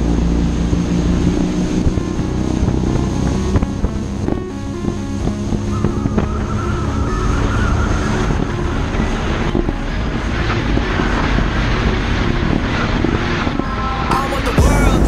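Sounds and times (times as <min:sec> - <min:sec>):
outboard motor running fast: 0:00.0 - 0:15.0
water rushing over hull: 0:00.0 - 0:15.0
wind rush: 0:00.0 - 0:15.0.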